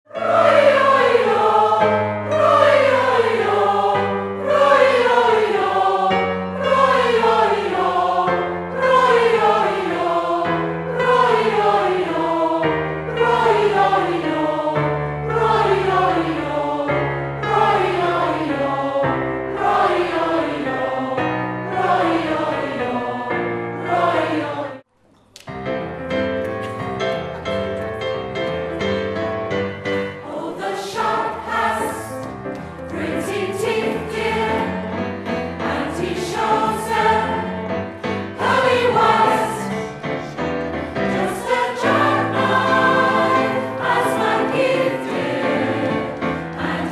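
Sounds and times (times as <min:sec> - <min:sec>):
choir singing: 0:00.1 - 0:24.9, 0:28.8 - 0:46.9.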